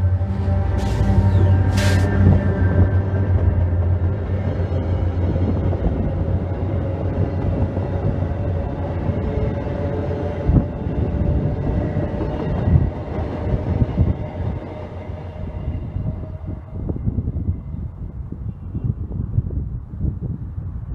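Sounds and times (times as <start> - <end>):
train wheels rumbling on rail: 0.0 - 19.4.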